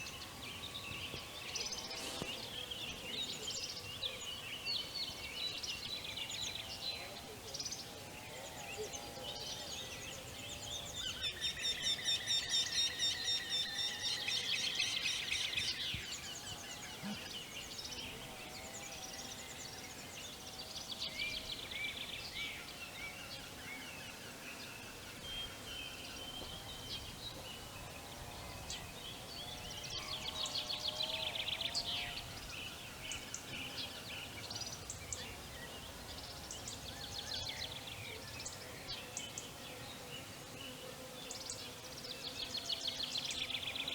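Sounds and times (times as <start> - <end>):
songbirds singing and chirping: 0.0 - 43.9.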